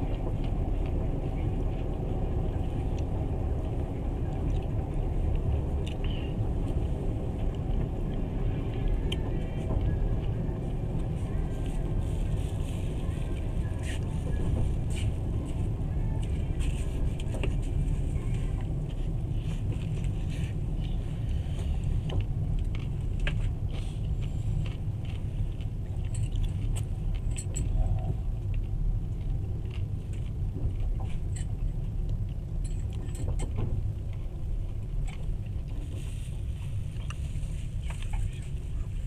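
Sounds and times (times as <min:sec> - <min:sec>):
train wheels rumbling on track: 0:00.0 - 0:39.0.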